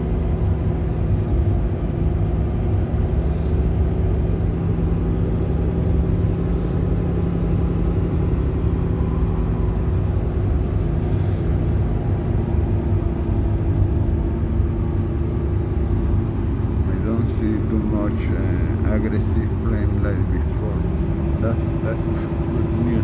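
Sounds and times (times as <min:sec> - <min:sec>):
bus engine running: 0:00.0 - 0:23.0
road rumble: 0:00.0 - 0:23.0.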